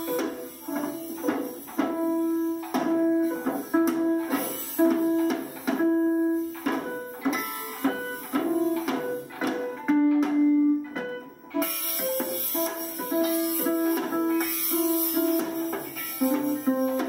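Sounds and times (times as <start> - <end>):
electronic keyboard notes: 0.0 - 17.0.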